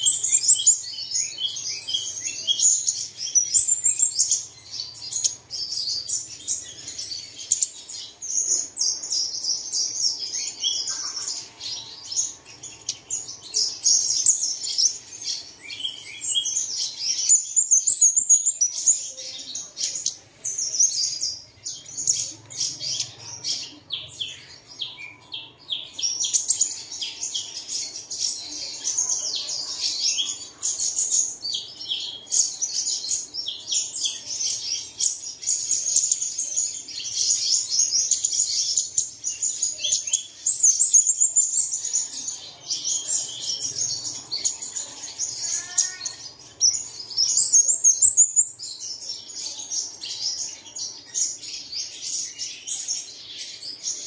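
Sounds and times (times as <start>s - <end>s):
bird twittering song: 0.0s - 54.0s.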